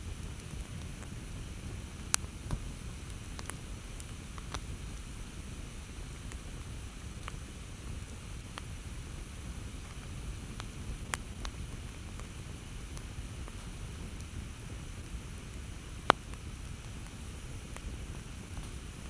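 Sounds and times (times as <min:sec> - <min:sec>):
campfire rumbling: 0:00.0 - 0:19.0
fire crackles and pops: 0:00.0 - 0:19.0.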